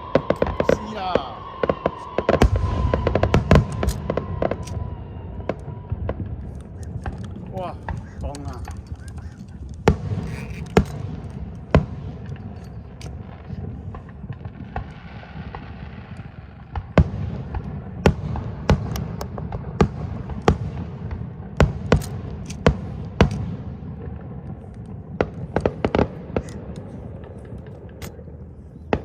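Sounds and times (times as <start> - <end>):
fireworks bangs: 0.0 - 29.0
fireworks cracking: 0.0 - 29.0.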